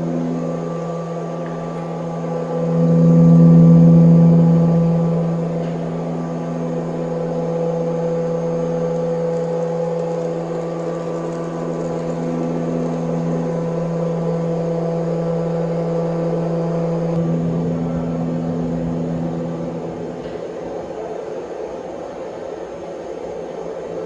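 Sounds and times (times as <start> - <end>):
machining centre humming: 0.0 - 24.0.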